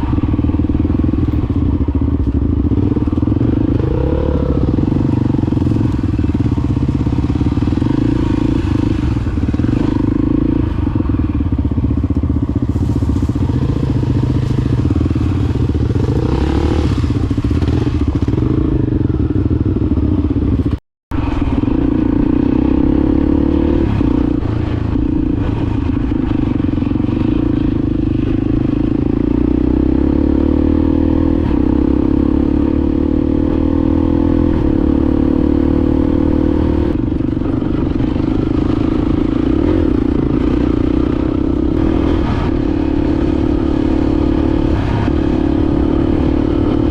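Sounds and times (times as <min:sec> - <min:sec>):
dirt bike engine running: 0:00.0 - 0:46.9.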